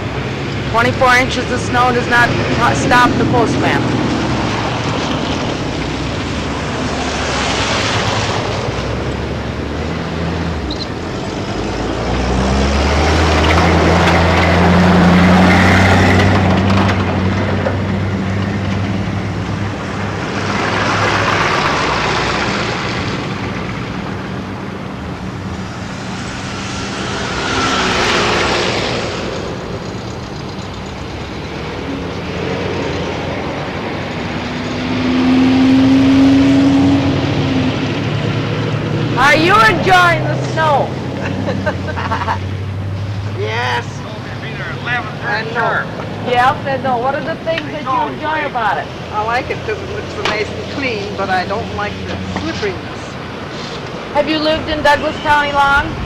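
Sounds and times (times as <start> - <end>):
steady engine hum: 0.0 - 56.0
vehicles driving past: 0.0 - 56.0.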